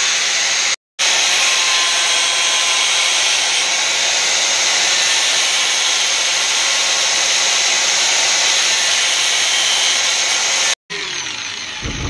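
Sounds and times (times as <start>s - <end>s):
angle grinder grinding steel: 0.0s - 12.0s.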